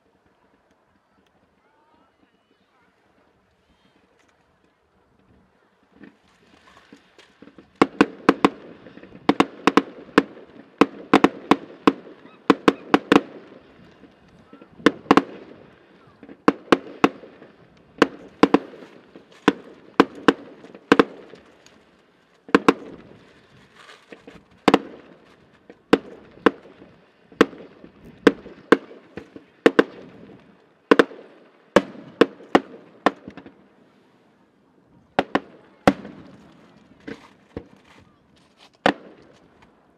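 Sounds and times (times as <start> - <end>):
fireworks bangs: 5.2 - 39.9.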